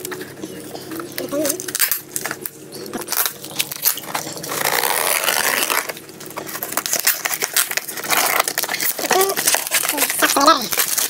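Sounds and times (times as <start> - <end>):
parcel scraping and crinkling: 0.0 - 11.0
packaging ripping: 1.4 - 11.0.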